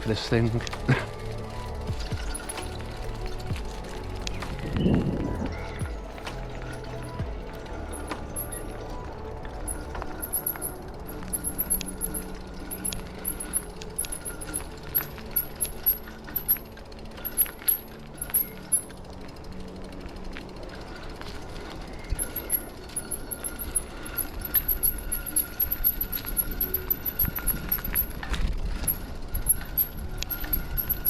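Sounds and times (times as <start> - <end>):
bicycle rattling on rough path: 0.0 - 31.0.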